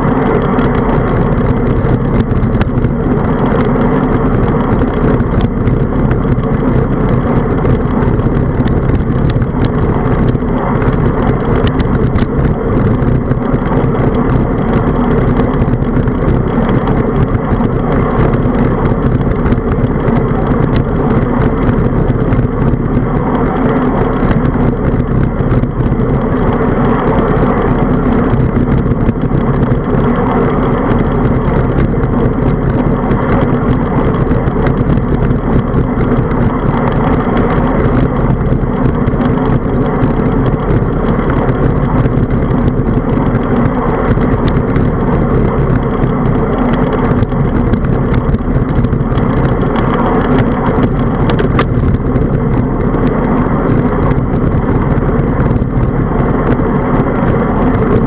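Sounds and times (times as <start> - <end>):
road rumble: 0.0 - 58.0
wind buffeting: 0.0 - 58.0.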